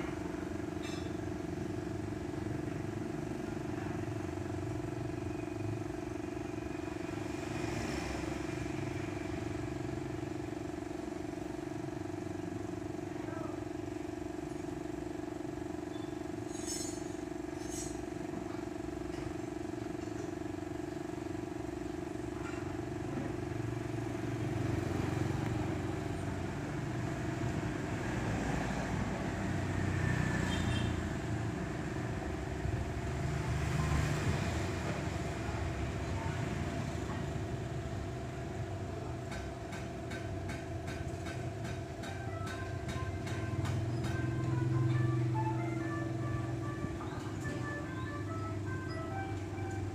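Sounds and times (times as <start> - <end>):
traffic engines humming: 0.0 - 12.2, 21.7 - 49.9.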